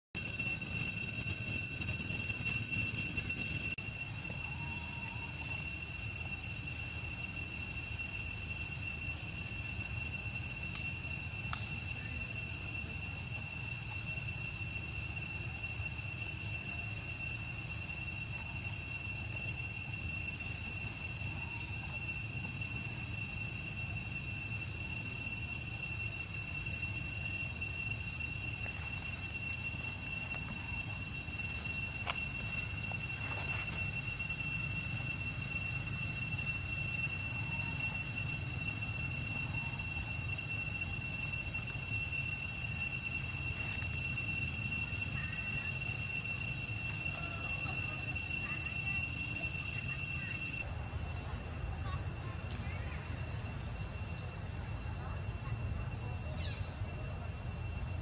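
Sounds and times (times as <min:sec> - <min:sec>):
high-pitched insect drone: 0:00.2 - 0:58.0.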